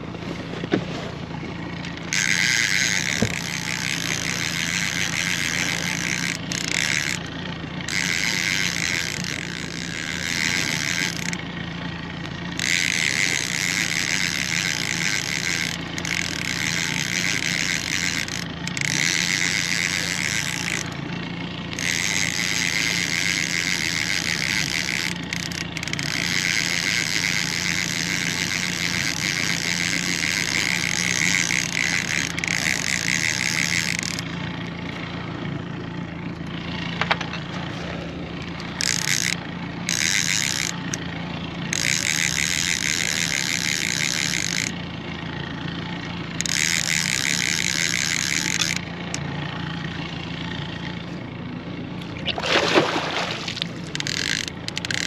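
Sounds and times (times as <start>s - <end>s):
fishing reel ticking whirr: 1.3s - 52.4s, 53.2s - 55.0s.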